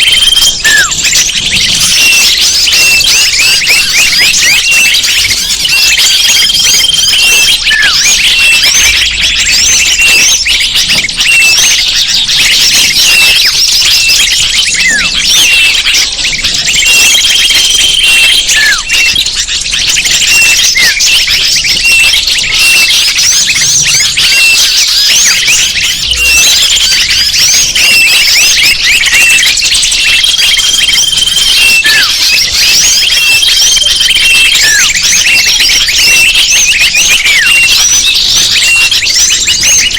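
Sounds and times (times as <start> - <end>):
small birds chirping: 0.0 - 39.9
steady held whistle: 0.0 - 39.9.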